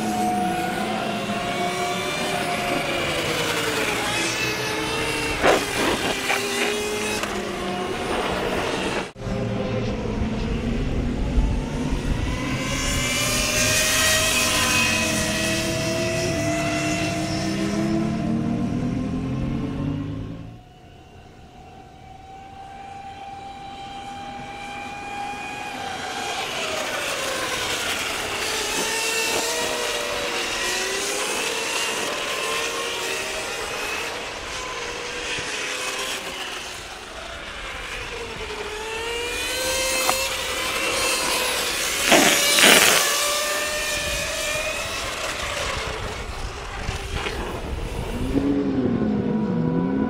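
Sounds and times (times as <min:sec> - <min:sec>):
bike passing with loud rush: 0:00.0 - 0:19.0, 0:24.0 - 0:50.0
electric minibike motors whining: 0:00.0 - 0:50.0.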